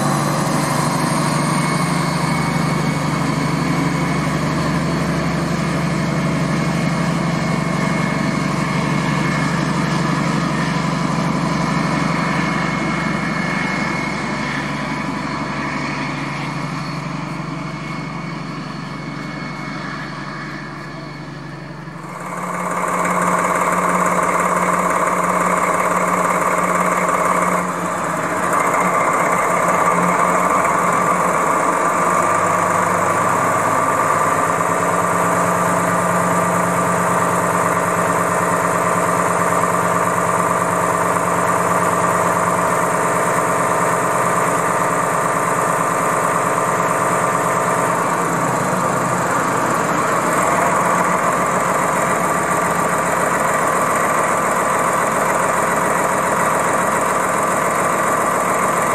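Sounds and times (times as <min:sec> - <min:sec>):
diesel locomotive engine running: 0:00.0 - 0:58.9
high whine: 0:00.0 - 0:58.9.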